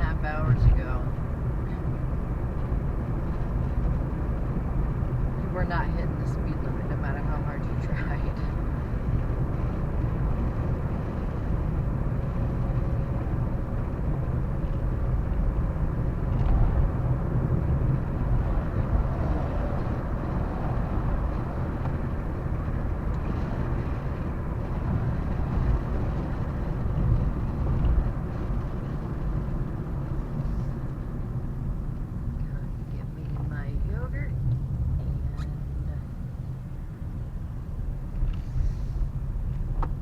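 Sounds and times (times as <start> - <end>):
car driving road and engine rumble: 0.0 - 40.0.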